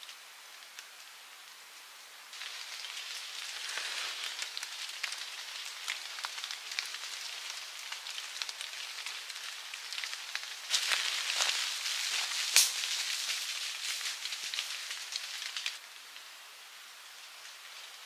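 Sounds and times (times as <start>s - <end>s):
rain falling: 0.0s - 18.0s
raindrops pattering: 0.0s - 18.0s.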